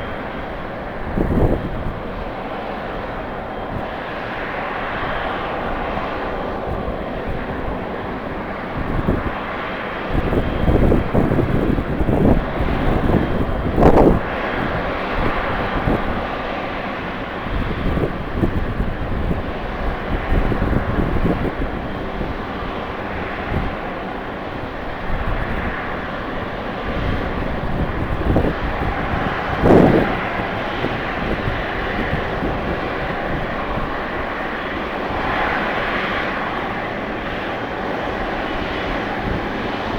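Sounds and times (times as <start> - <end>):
jet engines running: 0.0 - 39.9
wind buffeting microphone: 0.0 - 39.9.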